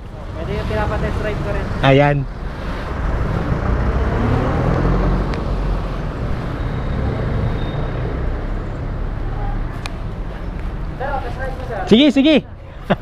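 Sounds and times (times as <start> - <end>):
motor vehicle running: 0.0 - 11.8
road traffic noise: 0.0 - 13.0.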